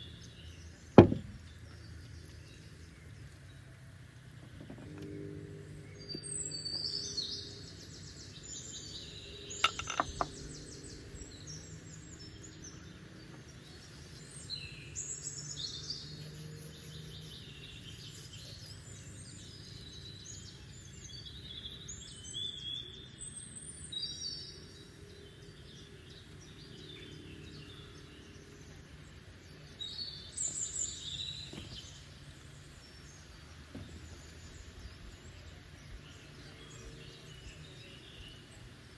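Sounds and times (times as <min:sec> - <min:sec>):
birds chirping: 0:04.3 - 0:38.9.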